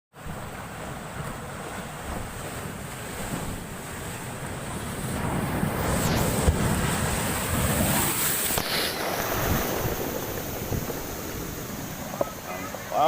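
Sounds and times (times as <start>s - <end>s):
storm surf breaking ashore: 0.2s - 13.0s
wind buffeting microphone: 0.3s - 13.0s.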